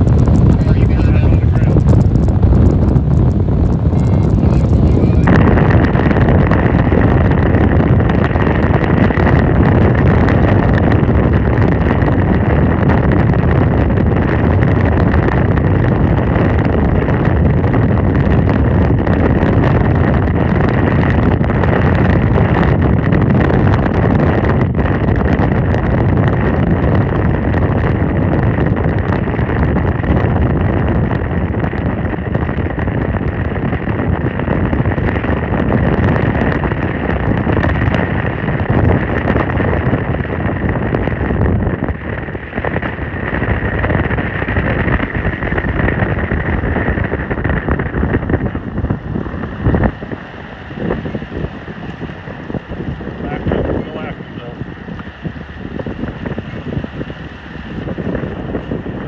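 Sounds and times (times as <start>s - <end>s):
vehicle rumbling on dirt road: 0.0s - 59.0s
wind on microphone: 0.0s - 59.0s.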